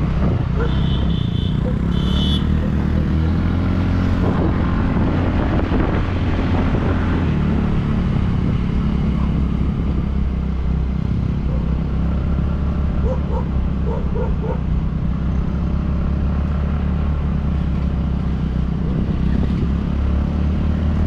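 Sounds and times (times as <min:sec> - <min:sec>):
road and wind noise: 0:00.0 - 0:21.0
vehicle engine running: 0:00.0 - 0:21.0.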